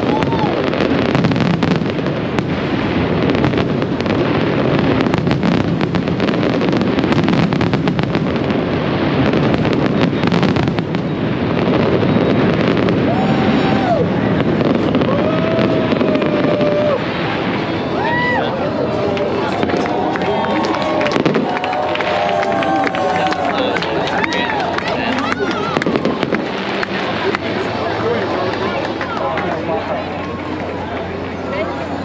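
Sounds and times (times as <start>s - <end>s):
fireworks crackling and popping: 0.0s - 32.0s
rumble of firework bursts: 0.0s - 32.0s.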